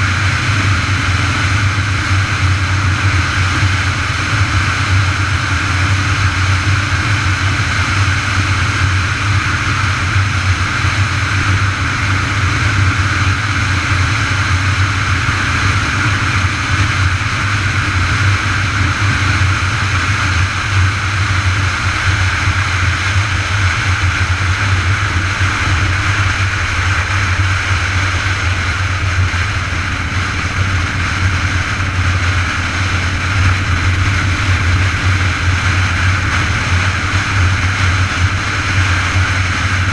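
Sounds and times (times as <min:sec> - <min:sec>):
wind and road noise rumble: 0:00.0 - 0:39.9.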